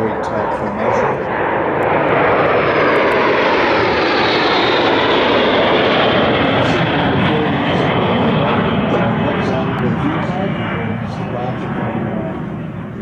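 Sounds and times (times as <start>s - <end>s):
aircraft engines roaring: 0.0s - 13.0s
high engine whine: 0.0s - 13.0s.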